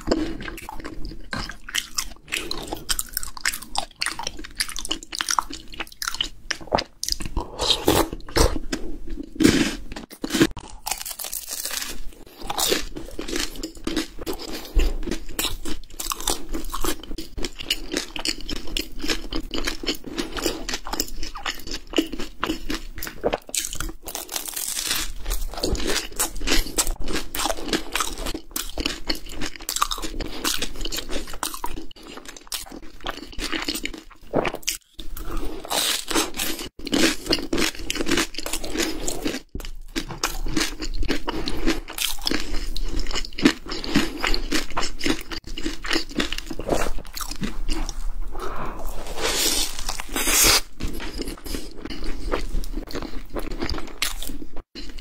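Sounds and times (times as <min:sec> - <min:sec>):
crunching and chewing pastry: 0:00.0 - 0:55.0.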